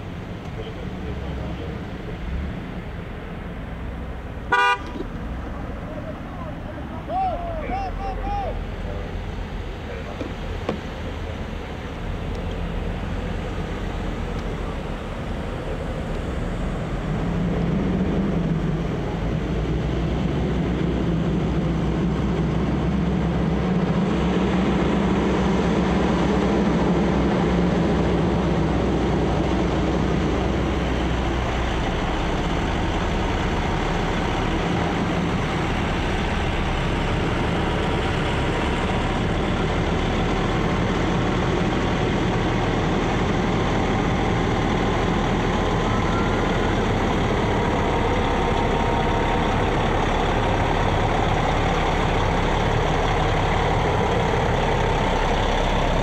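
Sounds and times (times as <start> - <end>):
heavy truck engines droning: 0.0 - 56.0.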